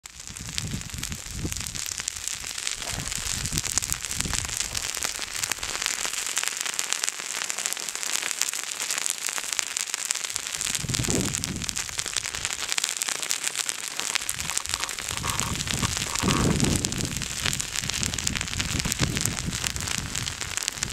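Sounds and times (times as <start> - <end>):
lava crackling and popping: 0.0 - 20.9.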